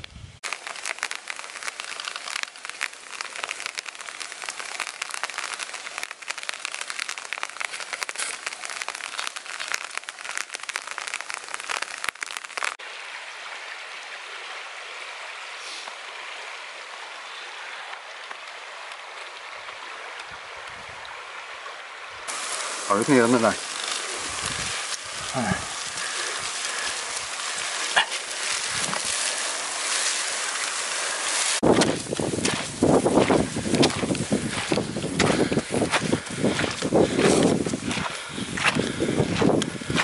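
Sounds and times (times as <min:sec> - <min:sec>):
rain pattering: 0:00.4 - 0:15.3, 0:15.9 - 0:40.0
river running over stones: 0:00.4 - 0:40.0.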